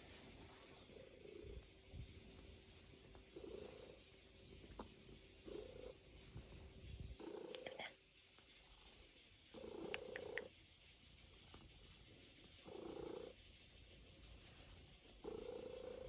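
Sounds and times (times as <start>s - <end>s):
cat purring softly: 0.0s - 16.0s.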